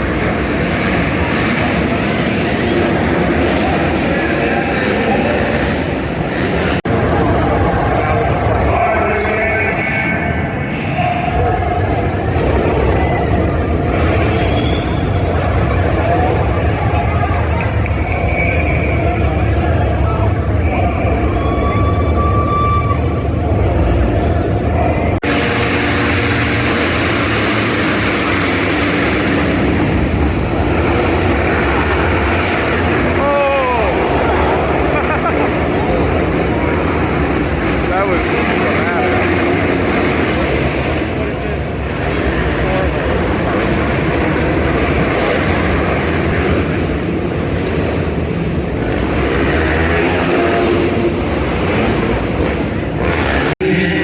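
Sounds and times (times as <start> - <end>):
loud vehicle engine: 0.0 - 54.0.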